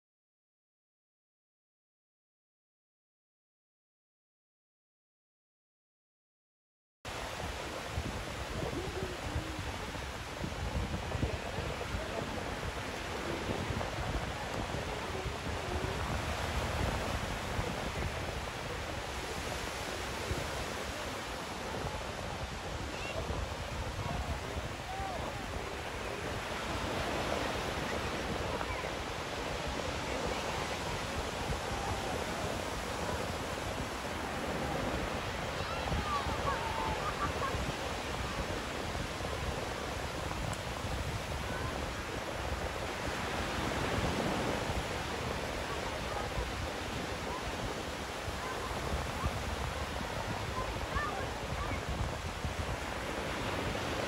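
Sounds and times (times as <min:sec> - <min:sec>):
small waves breaking on beach: 0:07.1 - 0:54.0
wind buffeting microphone: 0:07.1 - 0:54.0.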